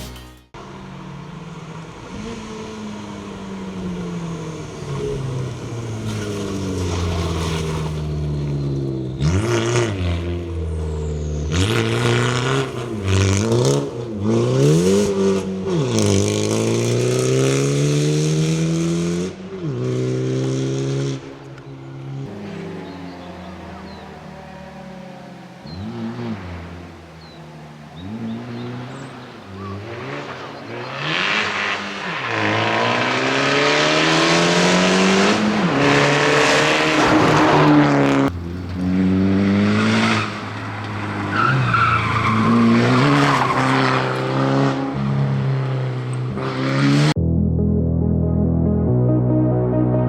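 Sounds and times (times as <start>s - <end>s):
rally car engine revving: 0.6s - 47.2s.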